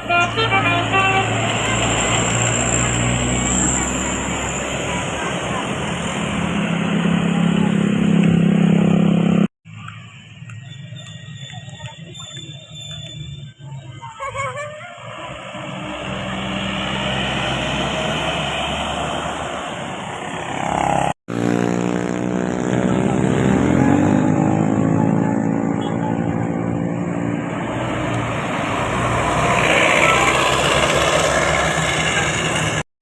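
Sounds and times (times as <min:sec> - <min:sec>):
buses driving past: 0:00.0 - 0:32.8.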